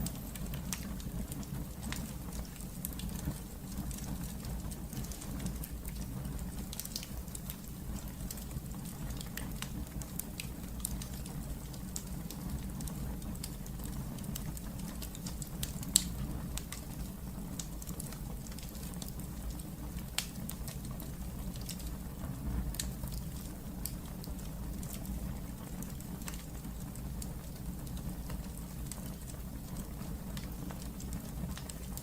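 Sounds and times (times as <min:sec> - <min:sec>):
wood fire burning: 0:00.0 - 0:32.0.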